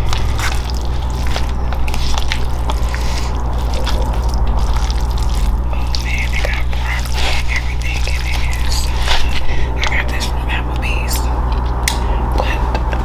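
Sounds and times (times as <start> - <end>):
low hum: 0.0 - 13.0
wet chewing: 0.0 - 13.0.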